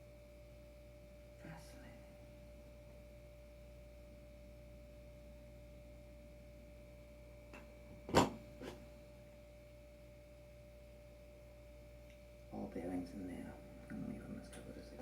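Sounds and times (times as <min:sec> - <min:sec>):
faint hum with thin tone: 0:00.0 - 0:15.0.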